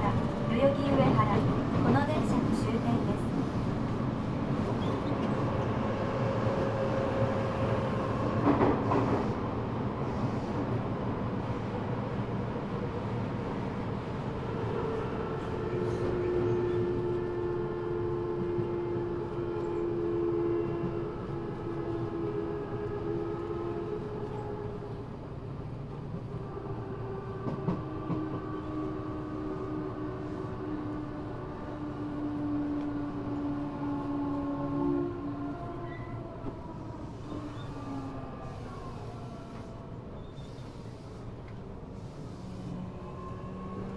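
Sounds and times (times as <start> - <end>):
wheels rumbling on rail: 0.0 - 43.9.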